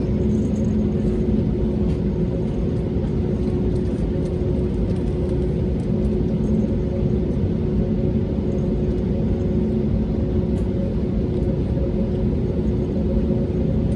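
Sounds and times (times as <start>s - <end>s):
airliner cabin rumble: 0.0s - 13.9s
engine and systems hums: 0.0s - 13.9s.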